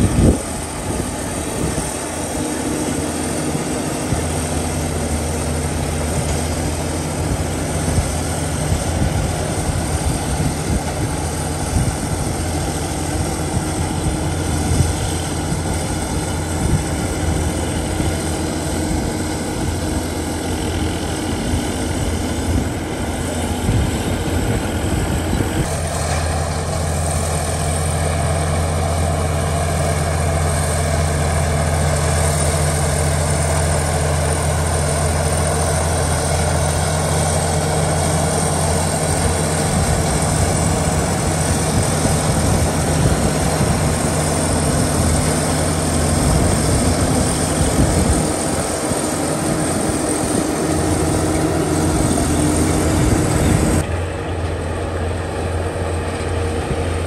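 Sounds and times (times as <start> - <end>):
heavy diesel machinery droning: 0.0 - 57.0.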